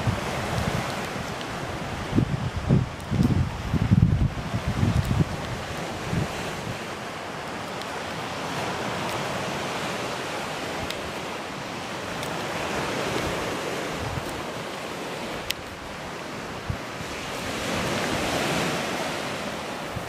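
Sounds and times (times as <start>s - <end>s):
surf washing on shingle: 0.0s - 20.0s
wind on microphone: 0.0s - 20.0s.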